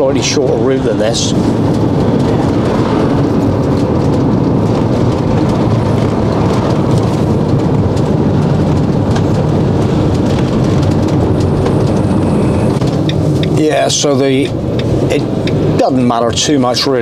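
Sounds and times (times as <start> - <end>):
engine and tyre rumble: 0.0 - 17.0.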